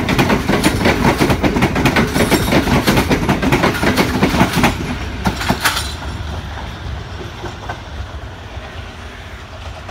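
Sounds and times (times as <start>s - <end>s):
train wheels clacking over rail joints: 0.0s - 8.8s
train rumble: 0.0s - 9.9s.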